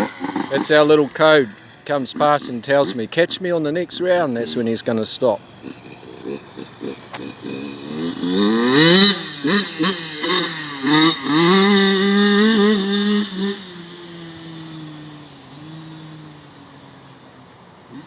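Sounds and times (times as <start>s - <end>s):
dirt bike engine revving: 0.0s - 16.5s.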